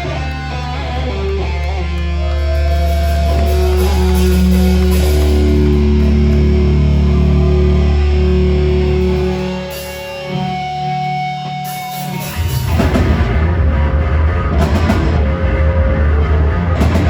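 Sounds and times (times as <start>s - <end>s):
loud sustained low bass: 0.0s - 9.7s, 12.3s - 17.0s
electric guitars holding notes: 0.0s - 17.0s.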